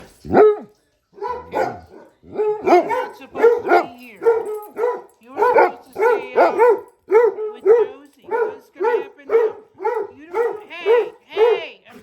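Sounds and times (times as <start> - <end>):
dogs barking: 0.2 - 12.0.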